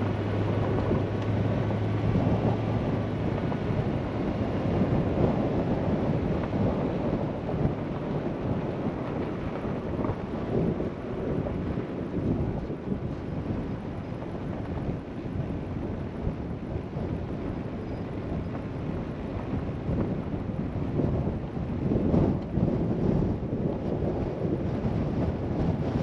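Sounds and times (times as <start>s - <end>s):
tyres rumbling on gravel road: 0.0s - 26.0s
wind noise: 0.0s - 26.0s.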